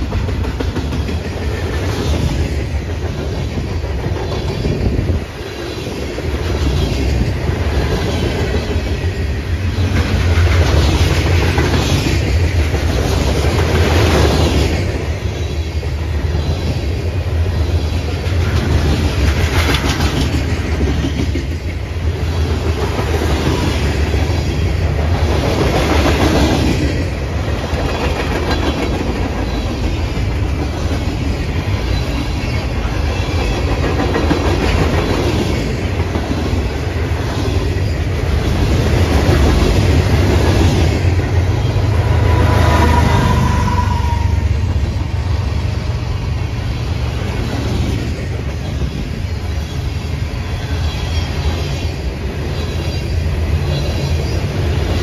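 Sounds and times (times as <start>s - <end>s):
rail clicks: 0.0s - 55.0s
train wheels rumbling on rails: 0.0s - 55.0s.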